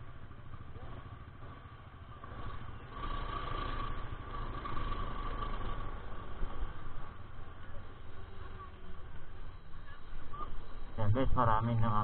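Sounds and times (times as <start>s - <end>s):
faint steady whine: 0.0s - 12.0s
scooter engine running: 0.0s - 12.0s.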